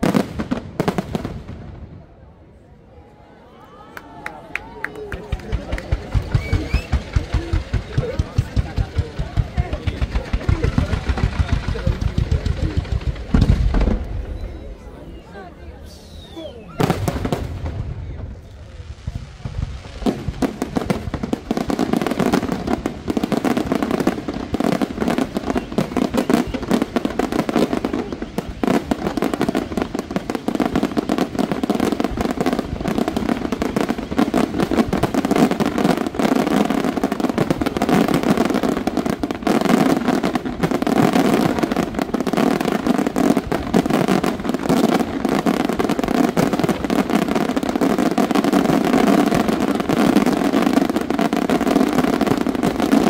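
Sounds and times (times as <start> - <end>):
fireworks bursting and crackling: 0.0 - 2.2, 4.6 - 53.0.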